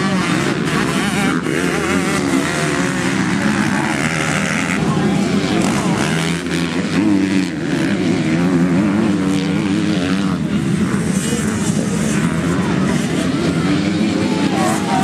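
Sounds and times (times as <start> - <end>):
motocross motorcycle engines racing: 0.0 - 15.0.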